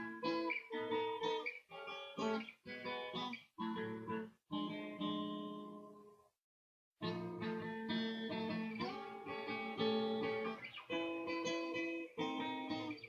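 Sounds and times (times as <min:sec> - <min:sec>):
guitar strumming and plucking: 0:00.0 - 0:06.1, 0:07.0 - 0:13.0.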